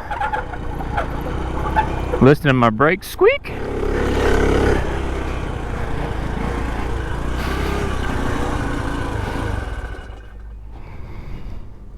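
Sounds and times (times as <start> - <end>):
small petrol engine running: 0.0 - 2.4, 3.5 - 11.0.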